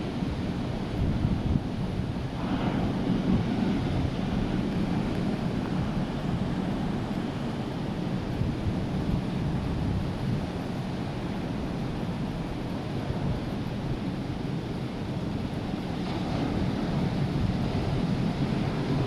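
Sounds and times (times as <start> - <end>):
heavy surf waves breaking: 0.0 - 19.0
wind buffeting microphone: 0.0 - 19.0.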